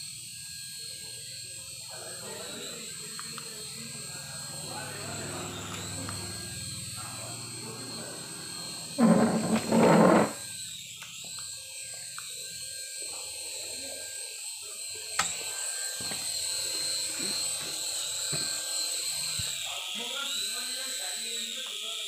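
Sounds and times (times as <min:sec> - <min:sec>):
toy helicopter rotor whine: 0:00.0 - 0:22.0.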